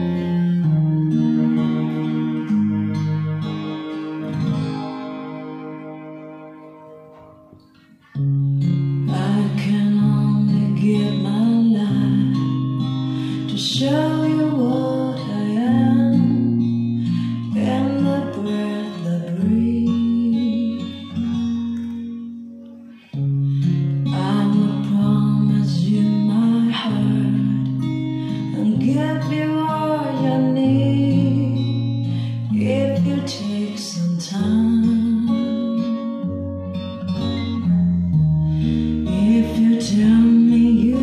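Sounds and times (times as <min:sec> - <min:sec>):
guitar music with singing: 0:00.0 - 0:41.0.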